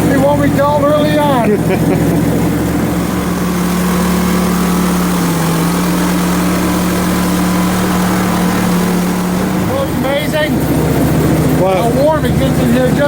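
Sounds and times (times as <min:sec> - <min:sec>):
gas engine running: 0:00.0 - 0:13.0.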